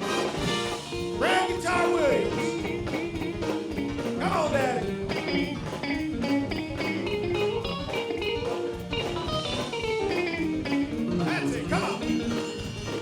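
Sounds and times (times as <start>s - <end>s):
blues band playing: 0.0s - 13.0s
electric guitar solo: 0.0s - 13.0s.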